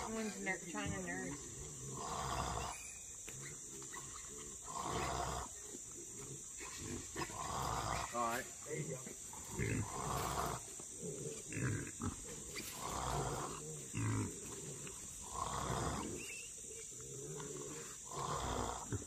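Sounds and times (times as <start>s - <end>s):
hogs grunting: 0.0s - 19.0s.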